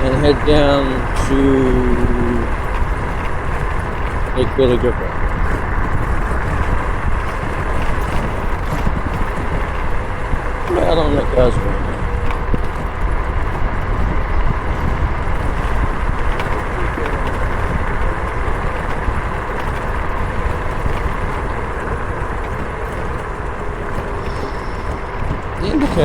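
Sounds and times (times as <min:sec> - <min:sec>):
bike road noise: 0:00.0 - 0:26.0
wind rushing over microphone: 0:00.0 - 0:26.0.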